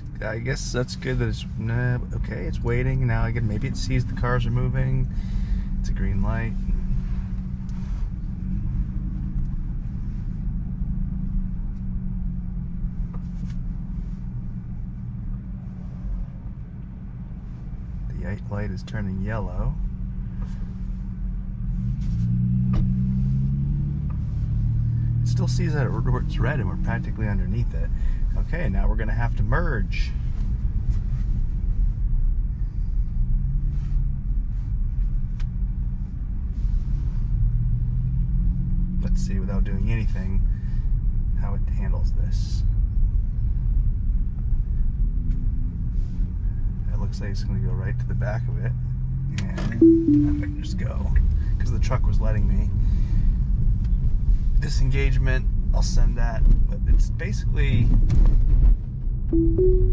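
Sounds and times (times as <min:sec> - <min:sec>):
road and tyre rumble in car: 0:00.0 - 0:49.8, 0:50.4 - 0:59.6
traffic outside: 0:00.0 - 0:59.9.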